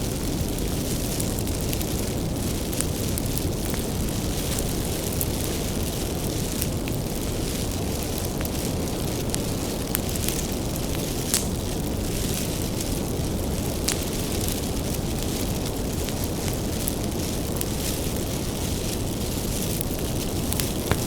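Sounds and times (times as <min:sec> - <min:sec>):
bonfire flames rushing: 0:00.0 - 0:21.0
firewood crackling and popping: 0:00.0 - 0:21.0.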